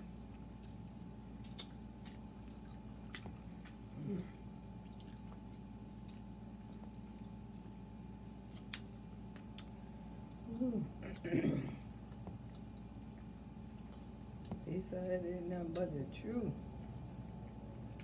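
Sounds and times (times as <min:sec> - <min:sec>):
close-up chewing: 0:00.0 - 0:18.0
faint steady hum: 0:00.0 - 0:18.0.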